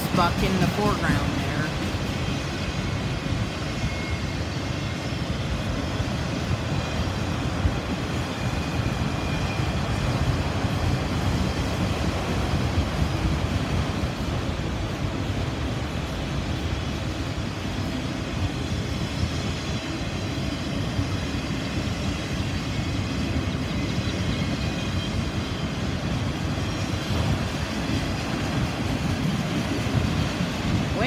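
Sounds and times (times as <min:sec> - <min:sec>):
freight train wheels rumbling and clattering: 0:00.0 - 0:31.0.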